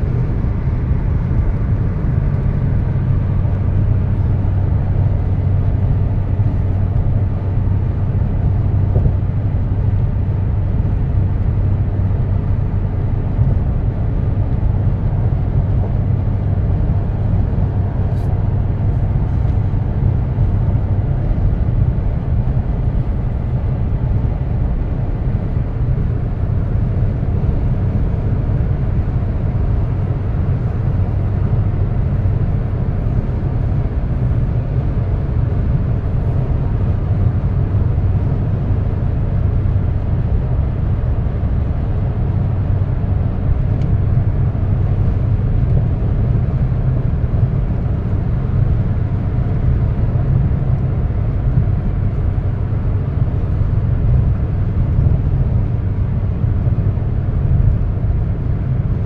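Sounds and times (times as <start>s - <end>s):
car road noise rumble: 0.0s - 59.0s
constant low hum: 0.0s - 59.0s.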